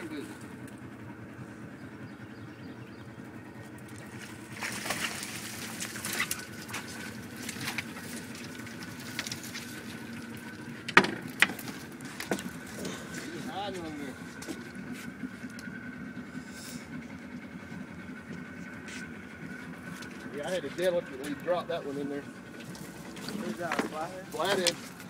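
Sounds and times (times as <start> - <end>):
boat motor idling: 0.0 - 25.0.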